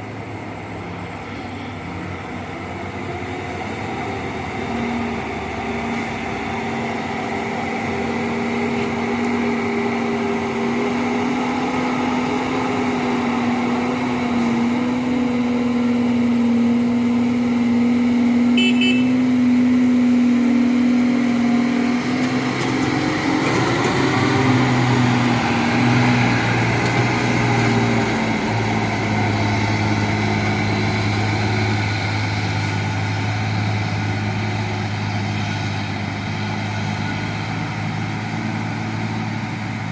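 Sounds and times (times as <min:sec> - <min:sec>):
dump truck engine running: 0:00.0 - 0:39.9.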